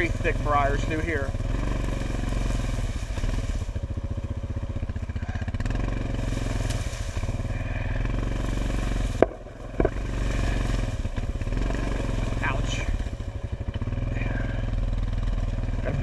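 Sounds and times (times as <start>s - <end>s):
atv engine pulsing: 0.0s - 16.0s.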